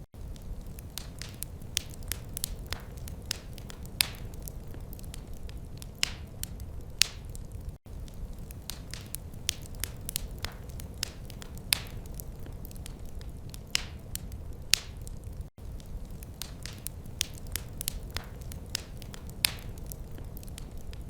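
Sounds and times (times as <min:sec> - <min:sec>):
low fire rumble: 0:00.2 - 0:21.0
wood fire popping and snapping: 0:00.2 - 0:21.0.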